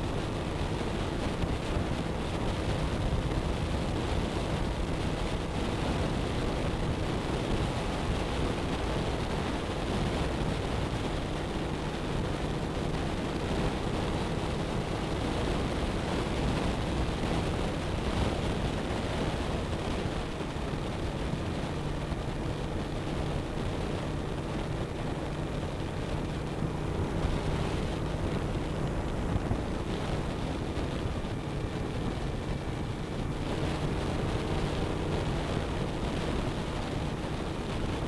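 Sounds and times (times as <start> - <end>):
motorcycle engine running steadily: 0.0 - 38.0
wind buffeting microphone: 0.0 - 38.0.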